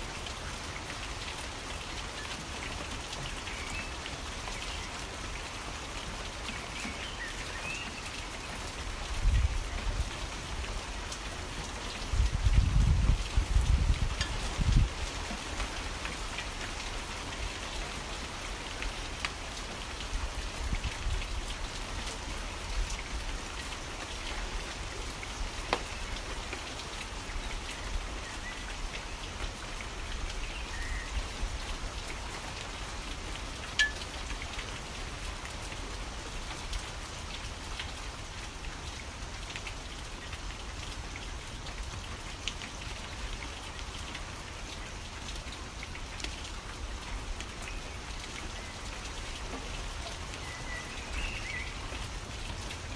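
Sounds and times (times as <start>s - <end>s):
steady rain hiss: 0.0s - 52.9s
raindrops ticking: 0.2s - 52.9s.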